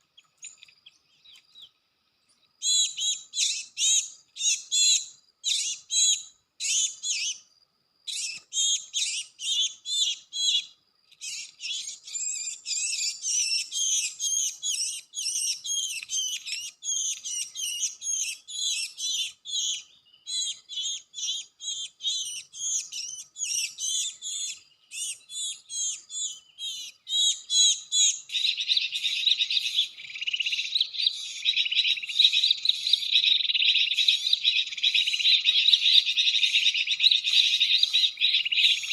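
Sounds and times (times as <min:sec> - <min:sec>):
bird chirping rapidly: 0:02.6 - 0:07.4, 0:08.1 - 0:38.9.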